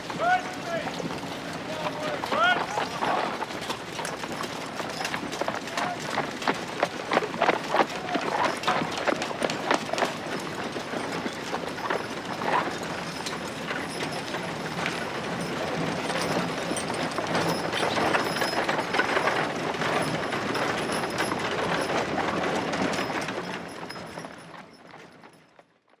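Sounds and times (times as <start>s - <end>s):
horse hooves clip-clopping: 0.0s - 26.0s
horse-drawn carriage rattling: 0.0s - 26.0s.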